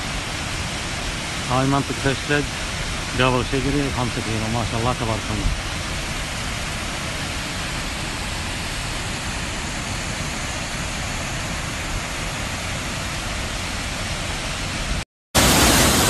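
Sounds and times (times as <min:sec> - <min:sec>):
water rushing down a gorge: 0:00.0 - 0:16.0.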